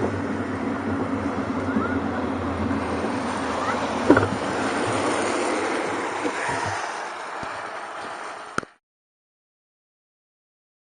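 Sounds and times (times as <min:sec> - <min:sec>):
bicycle tyre hum: 0:00.0 - 0:08.8
traffic: 0:00.0 - 0:08.8
wind: 0:00.0 - 0:08.8.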